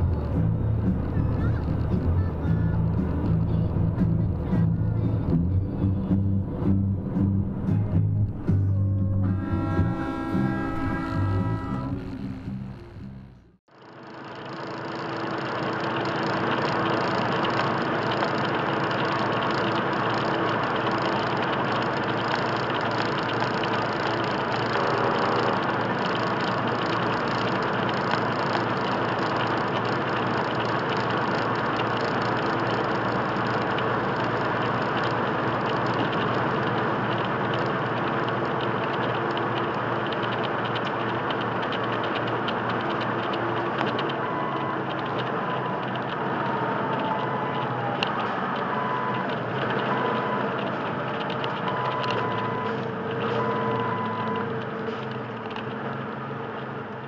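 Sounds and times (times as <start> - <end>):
road noise: 0.0 - 57.0
truck diesel engine cruising: 0.0 - 57.0.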